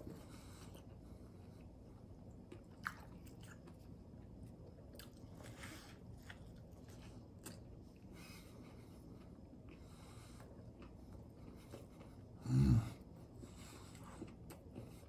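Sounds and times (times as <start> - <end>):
person chewing sandwich: 0.0 - 15.0.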